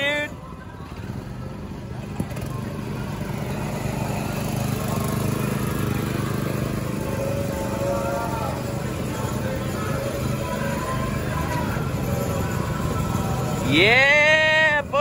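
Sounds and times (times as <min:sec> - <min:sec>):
go-kart engines droning: 0:00.0 - 0:15.0.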